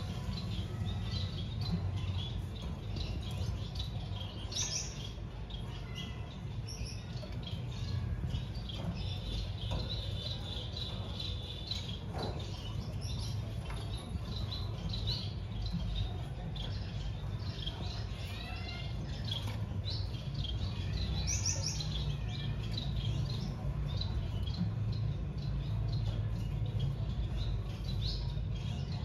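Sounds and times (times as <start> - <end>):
finches chirping: 0.0 - 29.0.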